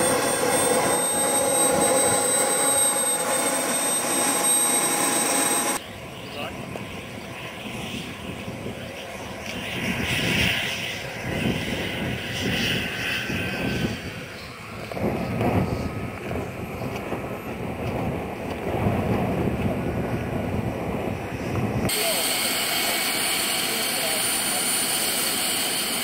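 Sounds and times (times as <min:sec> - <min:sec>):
model aircraft engines droning: 0:00.0 - 0:26.0.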